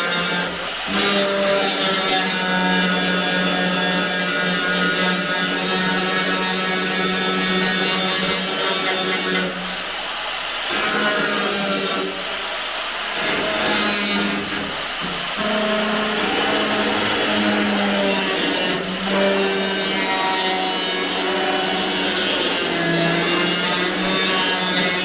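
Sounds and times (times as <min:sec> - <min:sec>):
electric grinder on metal: 0:00.0 - 0:25.0.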